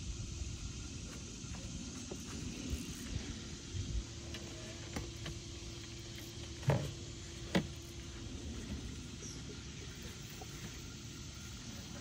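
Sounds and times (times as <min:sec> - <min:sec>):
faint steady tone: 0:00.0 - 0:12.0
steady low hum: 0:00.0 - 0:12.0.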